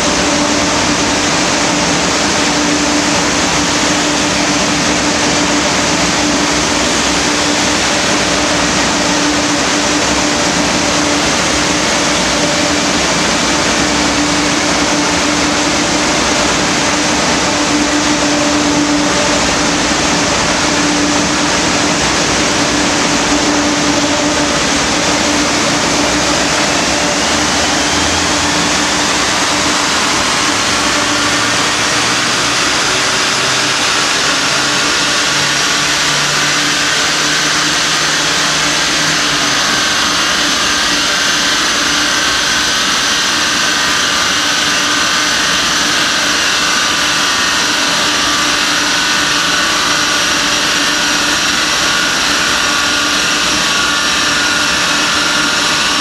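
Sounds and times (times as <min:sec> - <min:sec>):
diesel engine under load: 0:00.0 - 0:56.0
dyno rollers whining: 0:00.0 - 0:56.0
loud rush of noise: 0:00.0 - 0:56.0.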